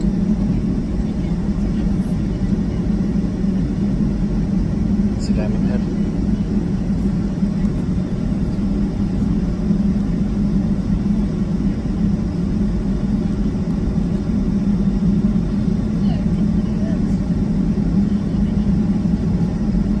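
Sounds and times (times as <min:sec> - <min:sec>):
jet engine cabin drone: 0:00.0 - 0:20.0.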